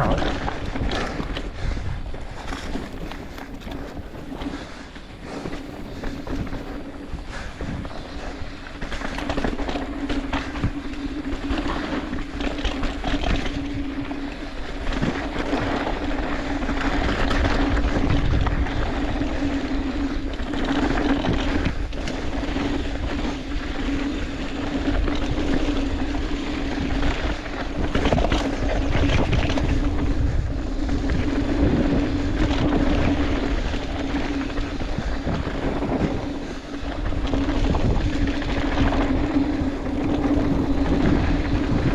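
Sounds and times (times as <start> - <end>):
low hum: 0.0 - 41.9
skis scraping over snow: 0.0 - 41.9
wind on microphone: 0.0 - 41.9.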